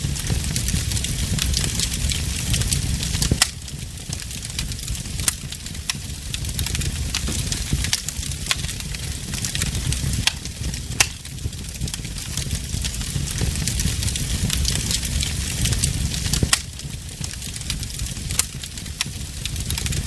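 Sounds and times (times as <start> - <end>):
burning logs crackling: 0.0 - 20.0
low steady rumble: 0.0 - 20.0.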